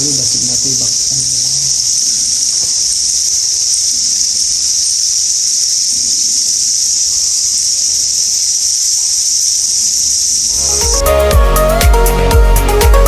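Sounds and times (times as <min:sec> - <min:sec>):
shrill insect chorus: 0:00.0 - 0:12.8.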